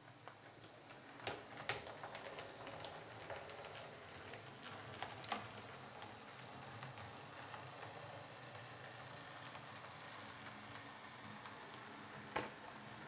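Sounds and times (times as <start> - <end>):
model train motor hum and rolling: 0.0 - 13.0
wheels clicking over rail joints: 0.0 - 13.0.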